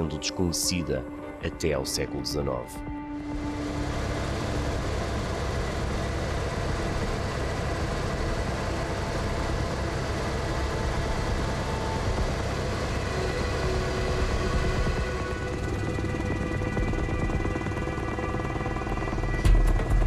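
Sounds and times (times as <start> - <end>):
aircraft engine rumble: 0.8 - 20.0.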